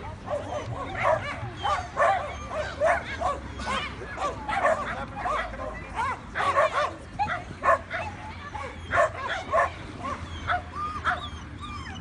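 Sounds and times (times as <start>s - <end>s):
dog barking and yipping: 0.3s - 12.0s.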